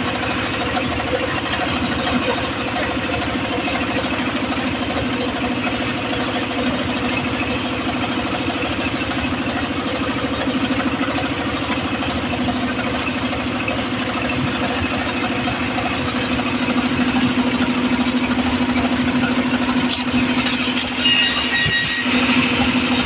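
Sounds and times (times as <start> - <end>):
saw rig engine running: 0.0 - 23.0.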